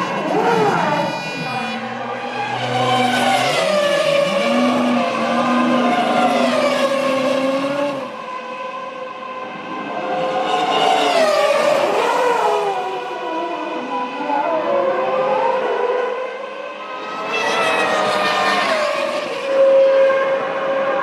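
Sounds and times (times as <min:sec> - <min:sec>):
racing car engines revving: 0:00.0 - 0:21.0.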